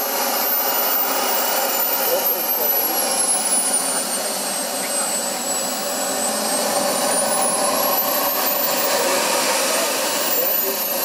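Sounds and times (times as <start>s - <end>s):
jet turbine rushing with high whine: 0.0s - 11.0s.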